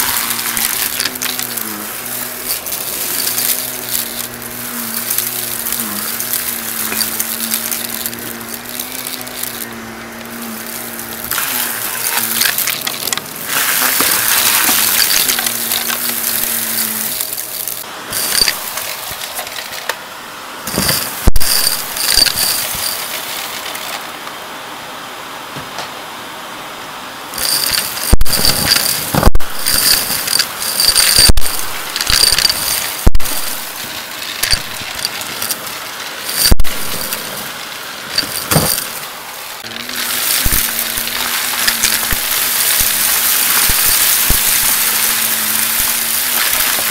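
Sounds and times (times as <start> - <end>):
debris clacking up vacuum wand: 0.0 - 20.0, 20.7 - 24.1, 27.4 - 46.9
vacuum cleaner running: 0.0 - 25.9, 27.0 - 46.9.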